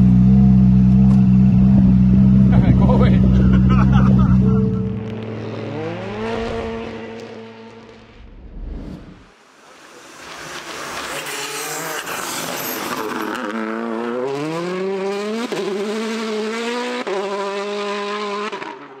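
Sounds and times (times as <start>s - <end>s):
rally car engine accelerating: 0.0s - 9.2s, 10.2s - 19.0s.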